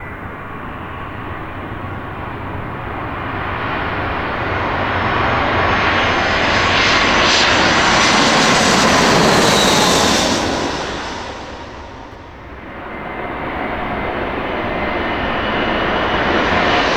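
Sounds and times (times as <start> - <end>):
high engine whine: 0.0 - 16.9
jet airliner passing overhead: 0.0 - 16.9.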